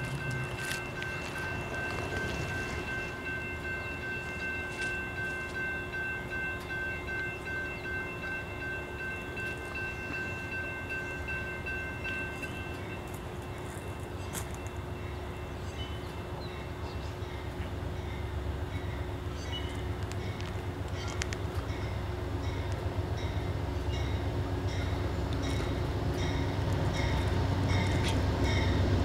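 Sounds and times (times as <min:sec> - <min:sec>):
distant train low hum: 0:00.0 - 0:29.0.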